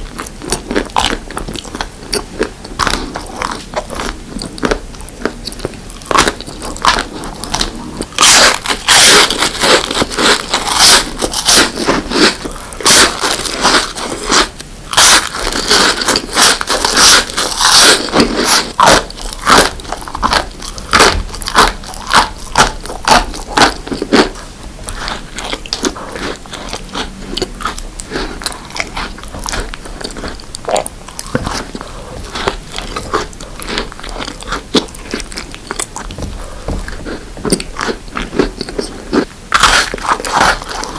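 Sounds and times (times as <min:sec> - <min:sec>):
crunchy bites and chewing: 0:00.0 - 0:40.9.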